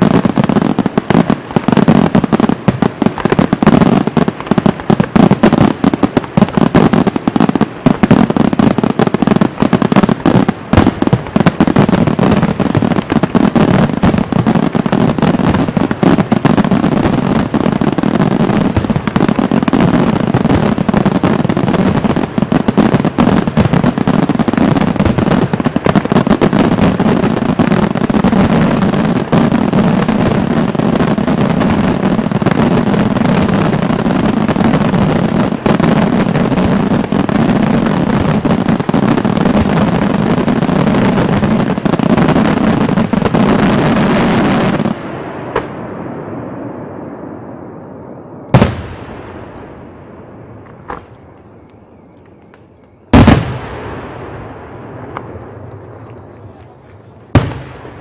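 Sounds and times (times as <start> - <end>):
loud firework bangs: 0.0 - 47.5, 48.2 - 51.6, 53.0 - 58.0
fireworks bursting and crackling: 0.0 - 58.0.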